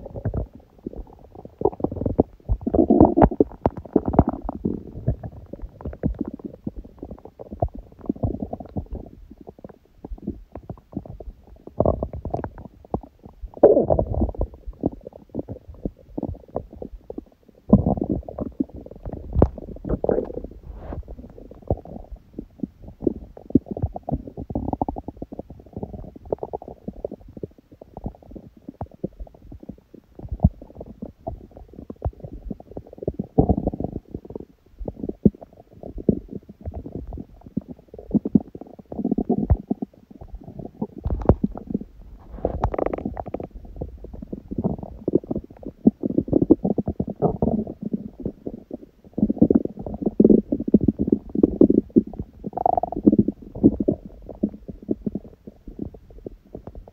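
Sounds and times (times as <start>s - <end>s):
stomach growling: 0.0s - 56.9s
stomach gurgling and popping: 0.0s - 56.9s.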